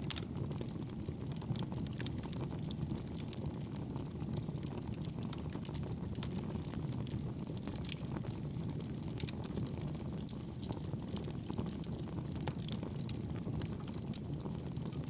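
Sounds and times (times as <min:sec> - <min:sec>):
fire popping and snapping: 0:00.0 - 0:15.0
fire rumble: 0:00.0 - 0:15.0.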